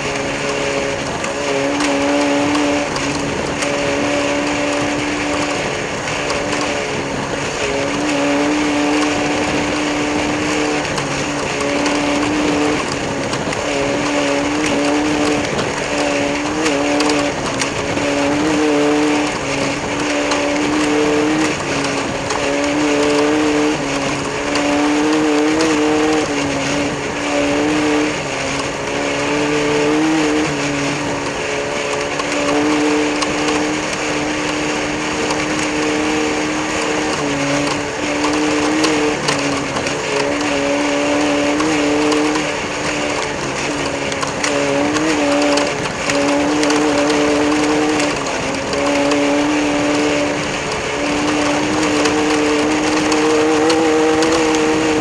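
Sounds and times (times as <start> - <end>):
engine running at high speed: 0.0 - 55.0.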